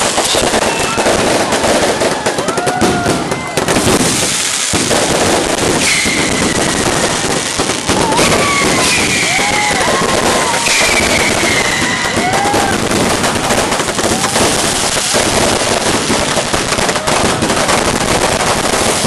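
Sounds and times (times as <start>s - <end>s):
falling firework whistle: 0.0s - 19.0s
fireworks crackling bangs: 0.0s - 19.0s.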